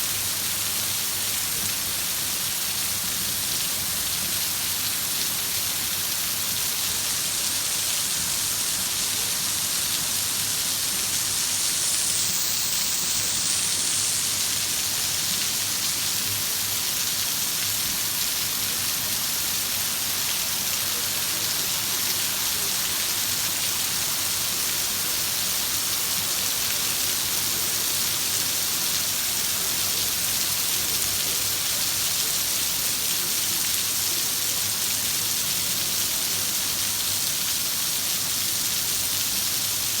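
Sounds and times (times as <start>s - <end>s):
heavy rain falling: 0.2s - 40.0s.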